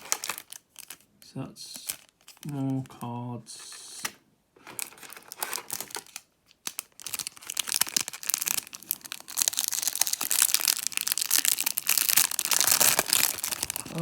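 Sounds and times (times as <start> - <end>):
plastic wrapping crinkling and tearing: 0.0 - 1.1, 1.7 - 2.9, 4.6 - 14.0.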